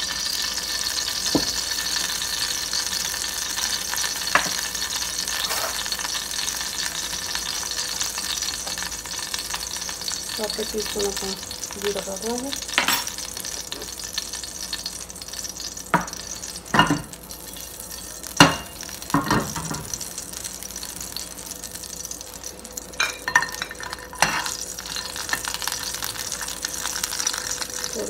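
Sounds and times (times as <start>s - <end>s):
seeds sizzling in hot oil: 0.0s - 28.0s.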